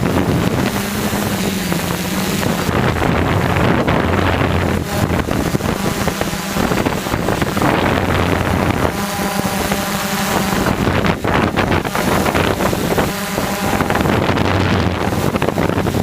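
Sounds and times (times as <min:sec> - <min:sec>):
drone motors droning: 0:00.0 - 0:16.0
wind buffeting microphone: 0:00.0 - 0:16.0.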